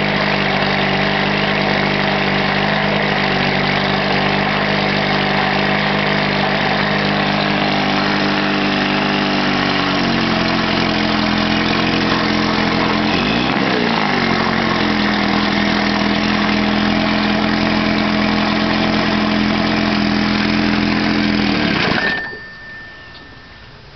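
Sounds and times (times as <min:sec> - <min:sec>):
outboard engine running: 0:00.0 - 0:22.6
propeller churning water: 0:00.0 - 0:22.6.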